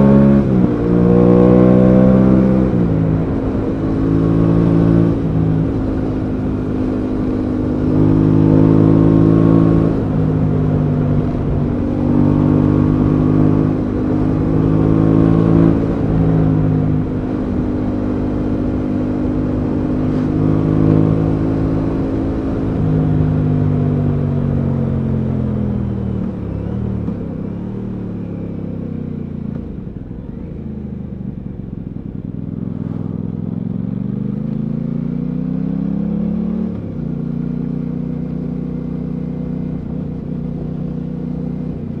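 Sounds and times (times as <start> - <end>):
motorcycle engine: 0.0 - 42.0.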